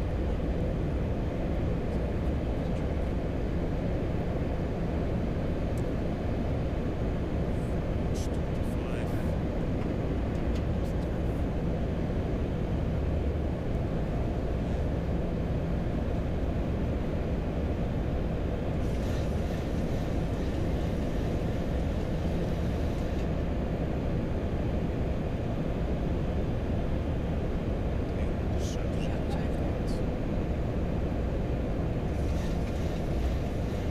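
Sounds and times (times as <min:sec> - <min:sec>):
low rumble of airflow and engines: 0:00.0 - 0:33.9.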